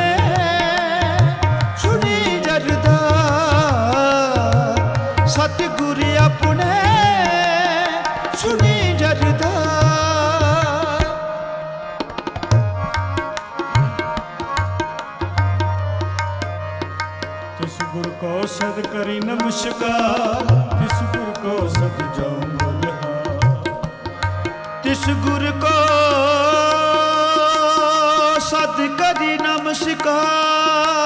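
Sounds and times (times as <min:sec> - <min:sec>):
sustained harmonium tones: 0:00.0 - 0:31.0
tabla playing quick rhythm: 0:00.0 - 0:31.0.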